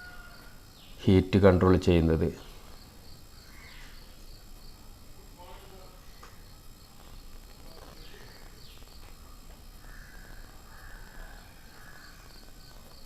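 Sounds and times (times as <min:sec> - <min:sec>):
insects chirping: 0:00.0 - 0:13.0
faint bird calls: 0:02.3 - 0:13.0.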